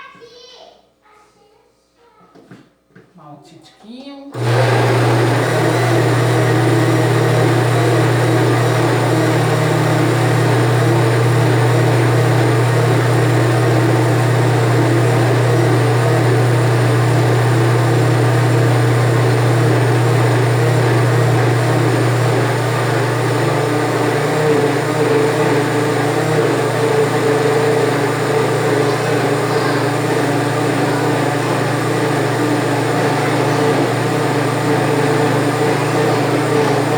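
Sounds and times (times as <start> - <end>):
blender motor running: 4.4 - 36.9.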